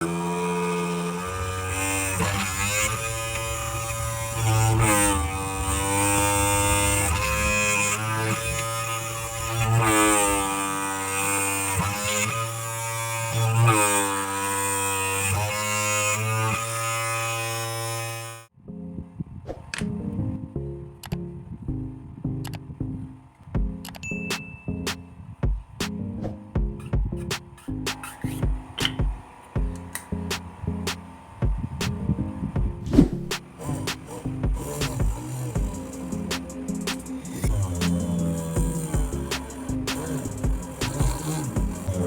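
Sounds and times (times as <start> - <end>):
small electric motor whirring: 0.0 - 18.5, 26.8 - 42.0.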